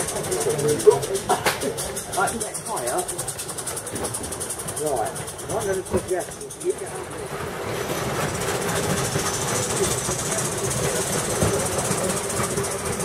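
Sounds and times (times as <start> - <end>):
fine mechanical rattling: 0.0 - 13.0
steam hissing: 0.0 - 13.0.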